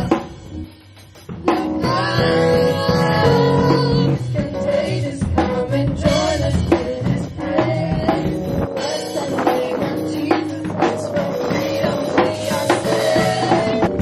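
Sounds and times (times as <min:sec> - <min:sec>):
drum kit steady beat: 0:00.0 - 0:14.0
stage keyboard: 0:00.0 - 0:14.0
woman singing: 0:01.5 - 0:14.0.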